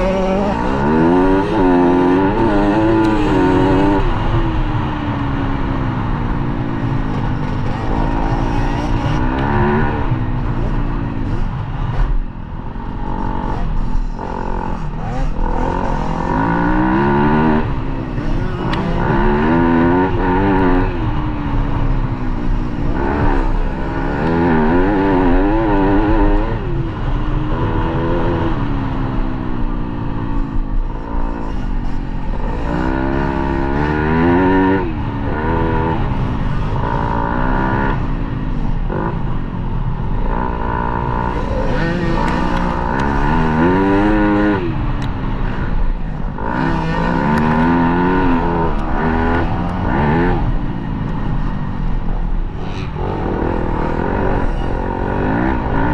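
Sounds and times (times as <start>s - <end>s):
dirt bike engine revving: 0.0s - 12.2s, 12.8s - 39.2s, 40.2s - 55.9s.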